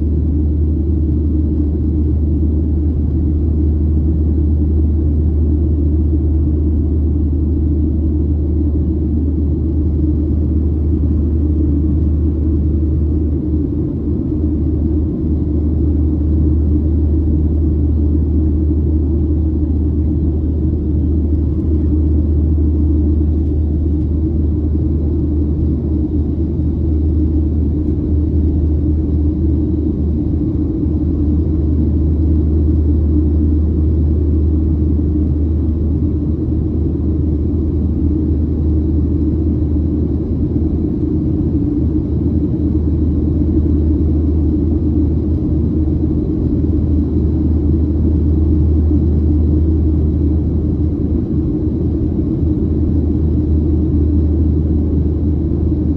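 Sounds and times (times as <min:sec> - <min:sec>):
jet engine cabin rumble: 0:00.0 - 0:55.9.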